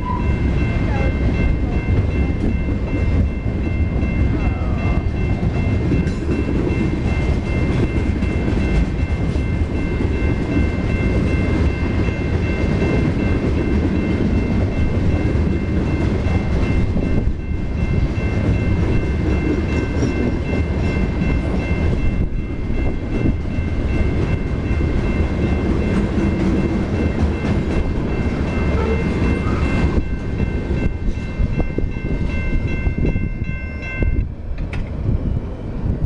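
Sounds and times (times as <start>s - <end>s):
steady high ringing tone: 0.0s - 36.0s
train rumble and wheel clatter: 0.0s - 36.0s.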